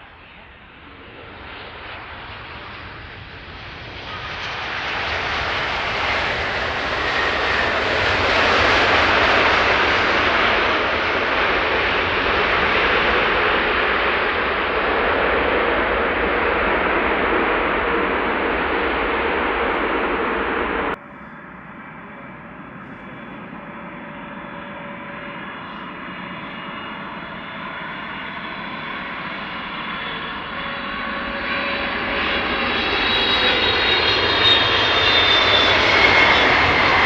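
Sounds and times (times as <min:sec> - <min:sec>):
airliner jet engines roaring: 0:00.0 - 0:37.0.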